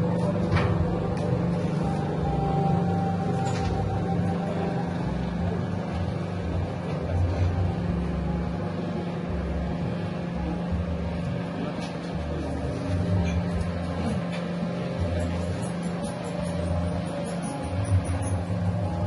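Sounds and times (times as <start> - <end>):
dough mixer motor humming: 0.0 - 19.0.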